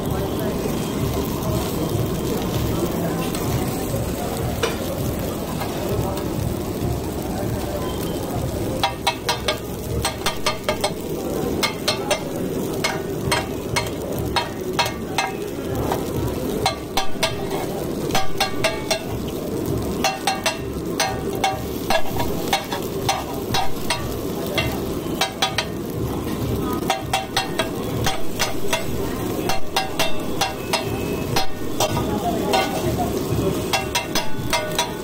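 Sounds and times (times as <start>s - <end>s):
patties sizzling on a griddle: 0.0s - 35.0s
metal tongs clacking on griddle: 3.2s - 6.3s, 8.7s - 35.0s.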